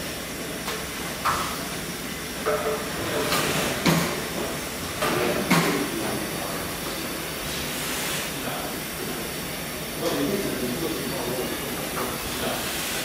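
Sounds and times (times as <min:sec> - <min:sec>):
stationary engines hissing: 0:00.0 - 0:13.0.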